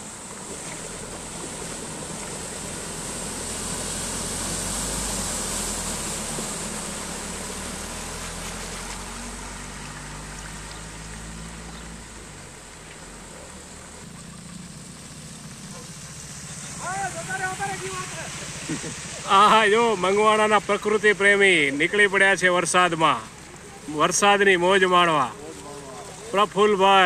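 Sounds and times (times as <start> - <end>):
vehicle engine running: 0.0 - 27.0
water rushing and splashing: 0.0 - 27.0.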